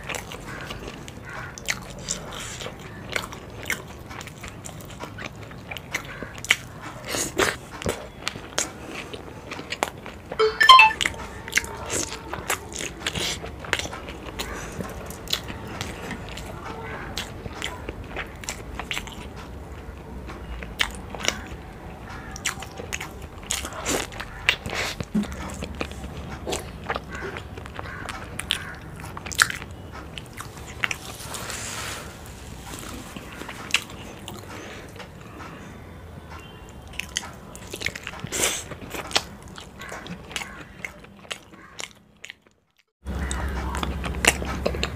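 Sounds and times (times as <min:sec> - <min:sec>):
person chewing food: 0:00.0 - 0:10.9, 0:11.6 - 0:35.3, 0:36.4 - 0:44.9.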